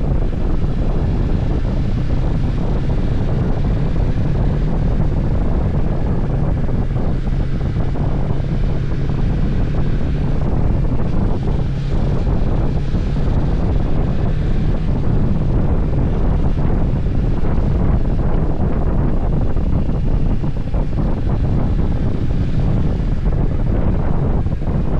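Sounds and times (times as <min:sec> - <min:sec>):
motorcycle engine drone: 0:00.0 - 0:24.9
wind rushing over microphone: 0:00.0 - 0:24.9.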